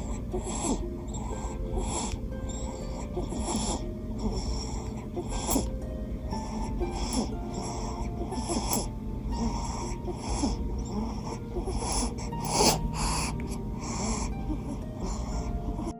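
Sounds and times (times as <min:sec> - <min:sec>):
baby snoring: 0:00.0 - 0:05.7, 0:06.4 - 0:15.9.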